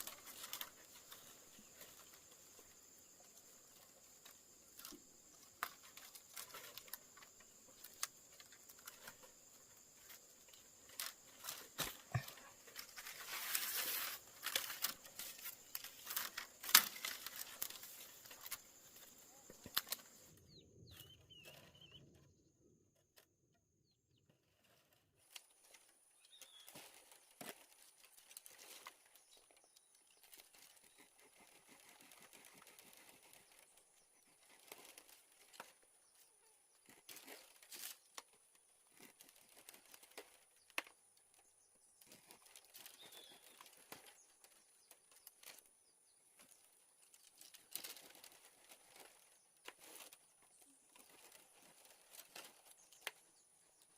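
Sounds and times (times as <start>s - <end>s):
faint clicks and rustles: 0.0s - 22.4s, 24.2s - 53.9s.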